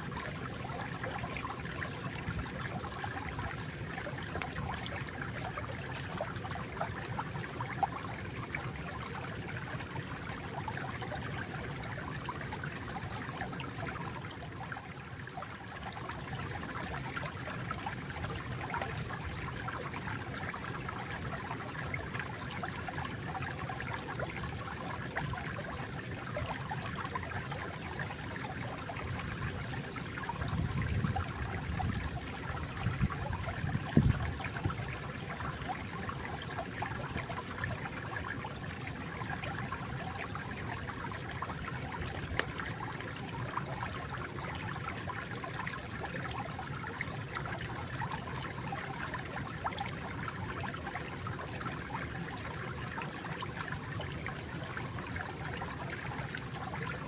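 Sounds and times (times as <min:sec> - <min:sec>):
stream trickling and babbling: 0:00.0 - 0:57.0.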